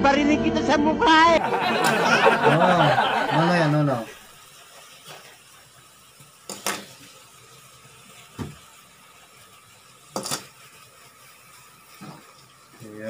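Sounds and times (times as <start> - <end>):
faint steady hiss: 1.4 - 13.0.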